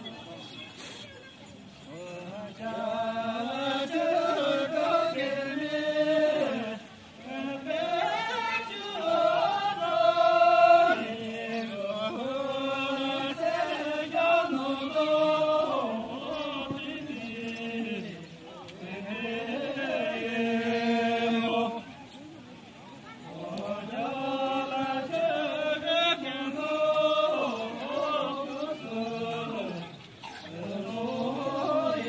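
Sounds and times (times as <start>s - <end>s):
voices singing together: 1.8s - 22.1s, 23.0s - 32.0s.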